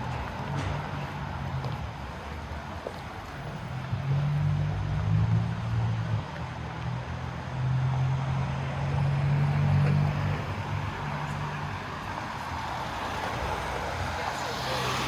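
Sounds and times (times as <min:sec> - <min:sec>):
street ambience: 0:00.0 - 0:15.0.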